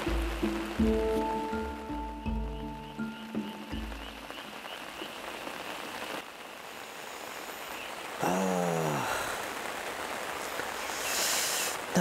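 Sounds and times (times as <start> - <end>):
rain falling on pond: 0.0 - 12.0.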